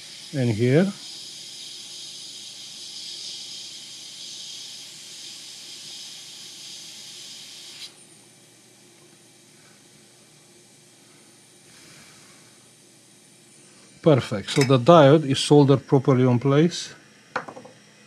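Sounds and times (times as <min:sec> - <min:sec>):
hot air blower hissing: 0:00.0 - 0:18.0.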